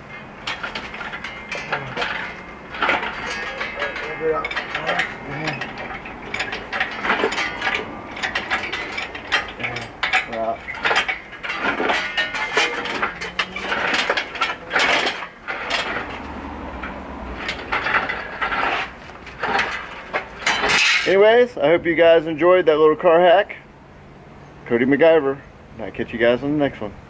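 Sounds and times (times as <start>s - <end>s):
engine hoist metallic clanks: 0.0s - 27.0s.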